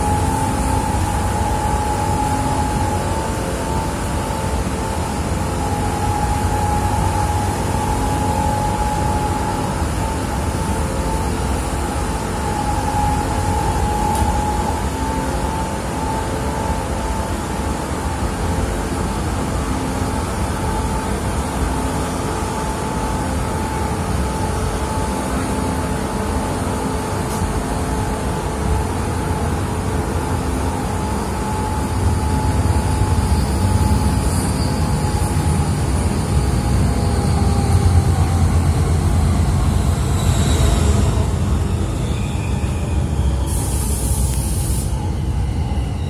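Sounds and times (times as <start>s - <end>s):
faint high squeal: 0.0s - 17.2s, 21.7s - 46.0s
train wheels rumbling on track: 0.0s - 46.0s.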